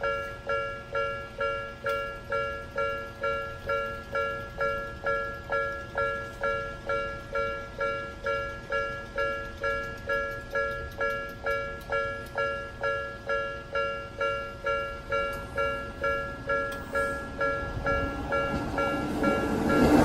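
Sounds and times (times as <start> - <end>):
level crossing alarm dinging: 0.0 - 20.0.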